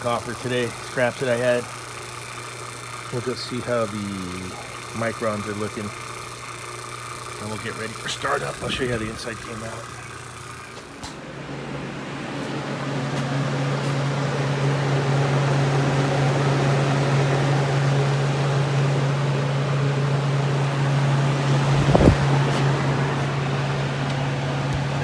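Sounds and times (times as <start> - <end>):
vacuum pump humming: 0.0 - 25.0.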